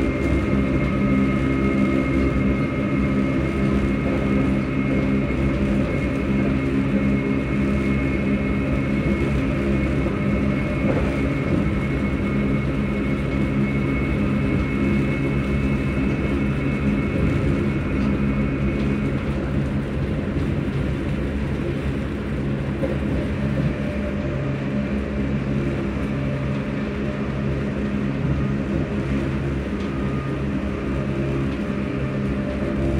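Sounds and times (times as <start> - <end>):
train motors and fans humming: 0.0 - 32.9.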